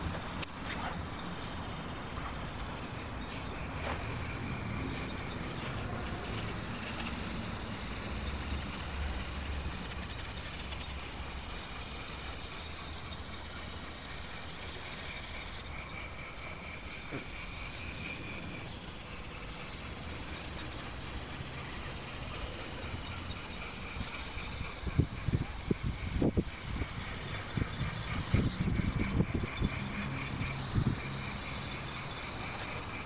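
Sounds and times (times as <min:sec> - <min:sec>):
electric gearmotor whine: 0:00.0 - 0:33.0.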